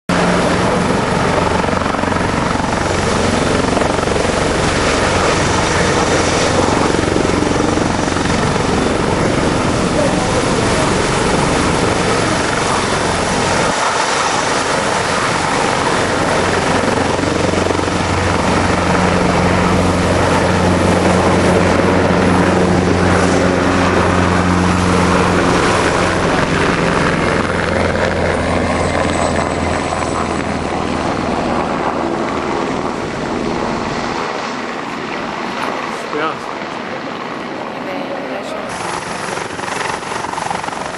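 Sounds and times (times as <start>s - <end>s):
helicopter rotor chop: 0.1s - 40.9s
helicopter turbine whine: 0.1s - 40.9s
low drone: 0.1s - 40.9s.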